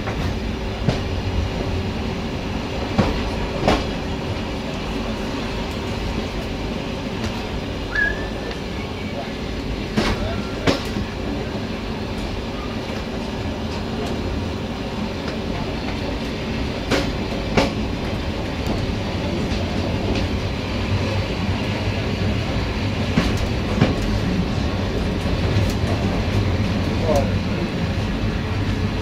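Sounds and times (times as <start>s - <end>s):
train coach rumbling on track: 0.0s - 29.0s.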